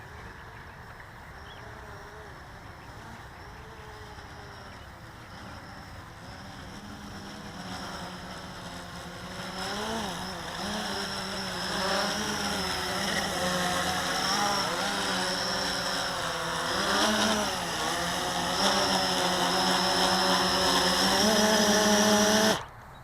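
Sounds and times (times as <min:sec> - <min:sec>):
quadcopter motors buzzing: 0:00.0 - 0:23.0.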